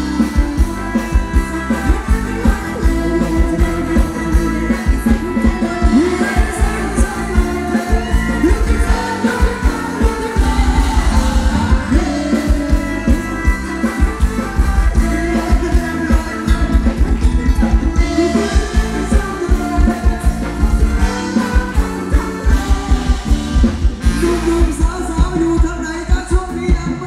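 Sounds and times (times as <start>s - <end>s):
live dance band playing: 0.0s - 27.0s
person singing: 0.0s - 27.0s
steady drum beat: 0.0s - 27.0s.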